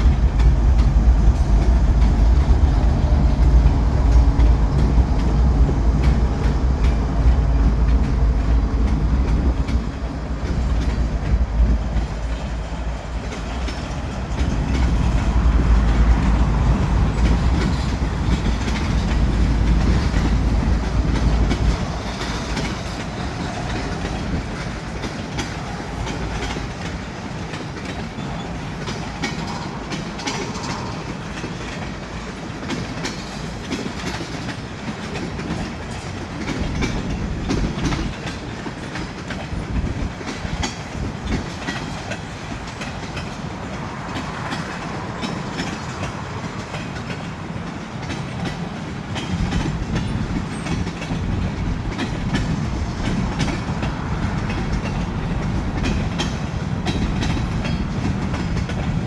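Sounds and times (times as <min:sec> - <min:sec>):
rumble of freight cars: 0:00.0 - 0:59.0
train wheels clacking over joints: 0:00.0 - 0:59.0.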